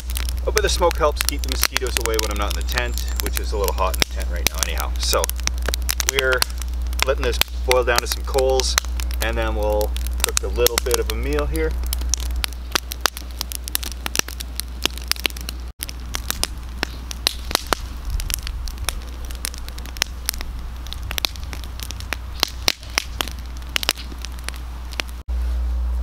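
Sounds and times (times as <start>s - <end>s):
campfire crackling and popping: 0.0s - 25.3s
low rumble: 0.0s - 26.0s.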